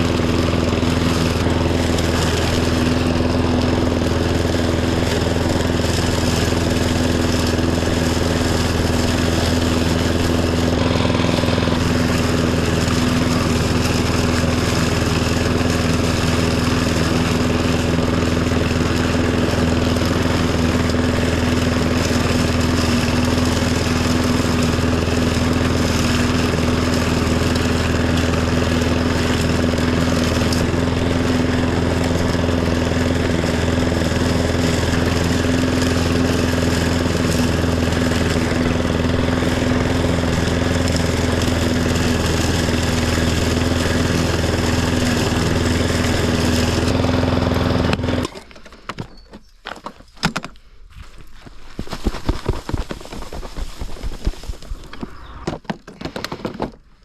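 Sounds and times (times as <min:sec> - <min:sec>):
riding mower engine running: 0:00.0 - 0:57.0.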